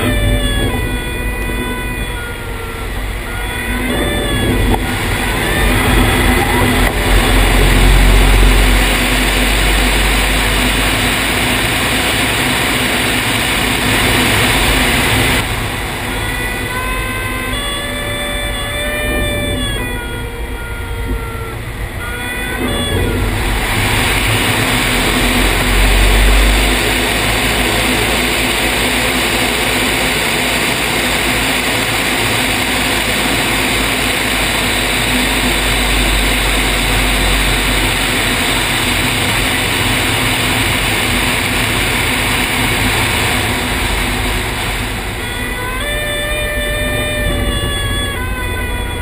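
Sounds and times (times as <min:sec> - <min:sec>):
propeller aircraft engine droning: 0:00.0 - 0:49.0.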